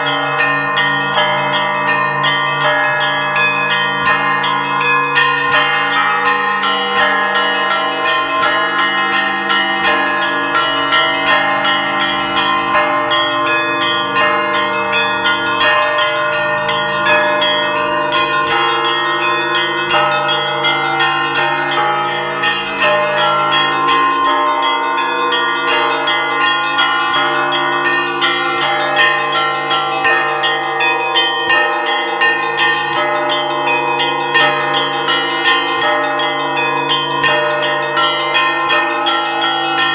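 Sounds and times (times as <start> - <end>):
deep bells humming: 0.0 - 39.9
small high bells ringing rapidly: 0.0 - 39.9.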